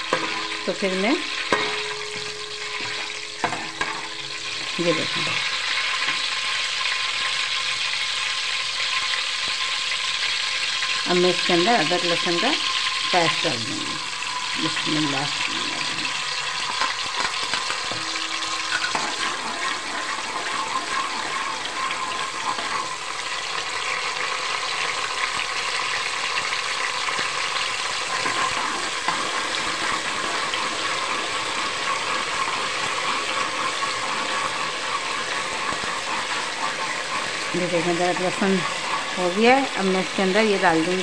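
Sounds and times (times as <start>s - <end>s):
metal spoon stirring in pot: 0.0s - 41.0s
paste sizzling in hot oil: 0.0s - 41.0s.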